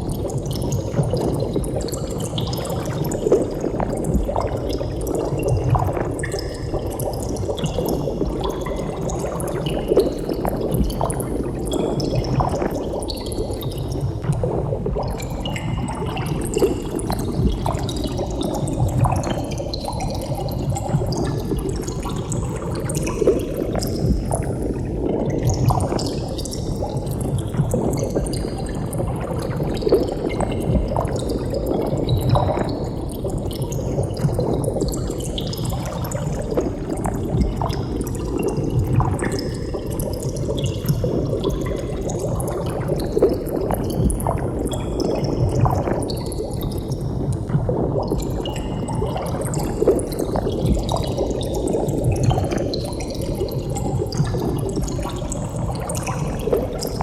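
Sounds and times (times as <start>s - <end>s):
water bubbling and gurgling: 0.0s - 57.0s.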